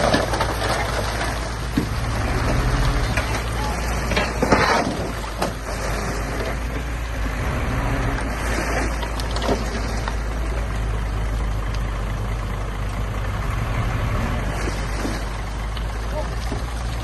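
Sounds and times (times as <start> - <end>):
diesel bulldozer engine running: 0.0 - 17.0.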